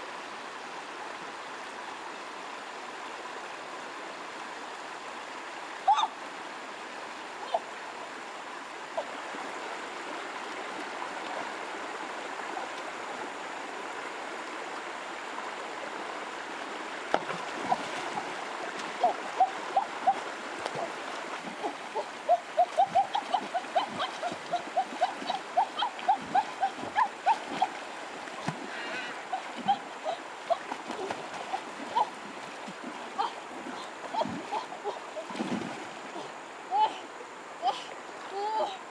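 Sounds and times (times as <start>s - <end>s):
shallow river flowing over stones: 0.0s - 38.9s.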